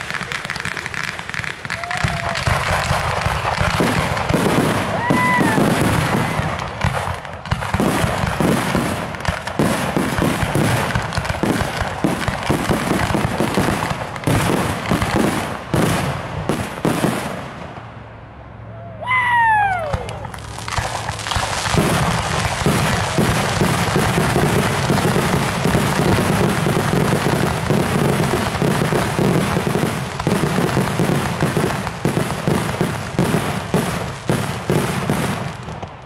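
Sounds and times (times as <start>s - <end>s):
fireworks bangs and crackling: 0.0s - 18.1s, 19.6s - 36.0s.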